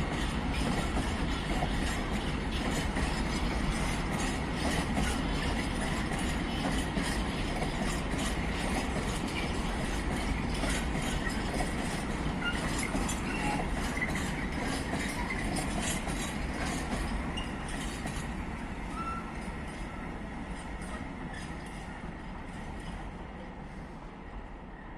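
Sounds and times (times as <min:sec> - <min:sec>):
train rumbling: 0:00.0 - 0:24.9.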